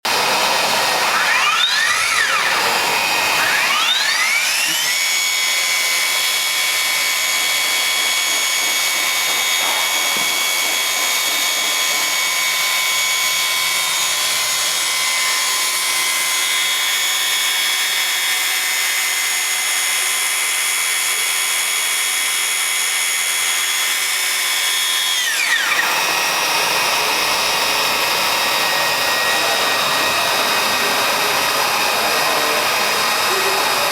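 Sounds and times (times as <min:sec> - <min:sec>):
high-pitched motor whine: 0:00.1 - 0:33.9.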